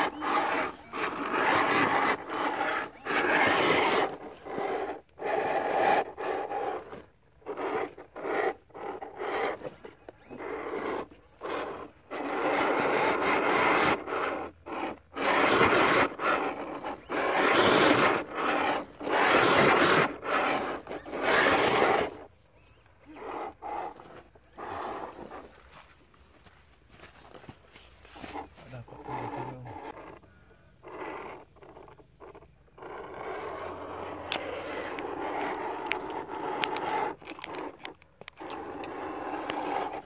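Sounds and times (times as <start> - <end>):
toy truck drivetrain whirring: 0.0 - 26.0, 28.0 - 40.0
tyres scraping on rock: 0.0 - 30.2, 30.8 - 40.0.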